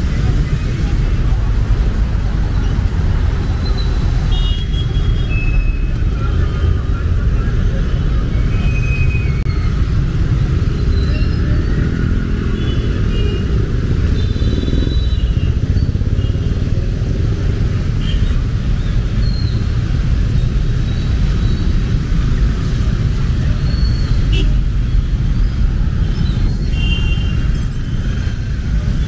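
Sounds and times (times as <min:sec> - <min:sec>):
vehicle engines rumbling: 0:00.0 - 0:29.0.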